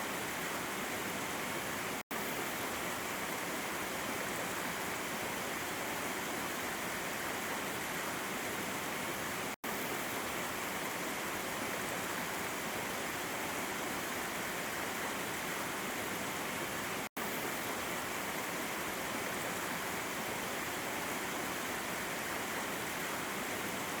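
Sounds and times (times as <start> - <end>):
waterfall splashing over rocks: 0.0 - 24.0.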